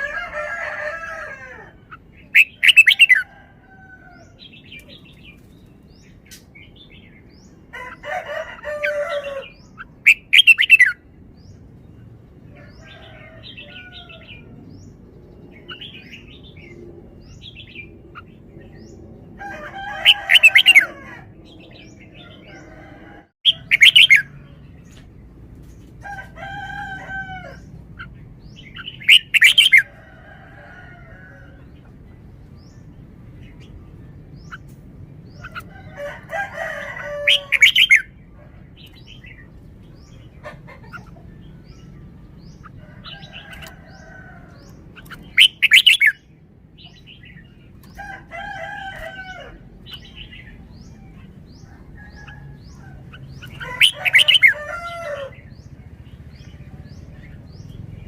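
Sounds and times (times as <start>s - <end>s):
bird singing warbling phrases: 0.0s - 3.3s, 4.1s - 11.7s, 12.6s - 25.0s, 26.6s - 30.0s, 31.6s - 58.0s.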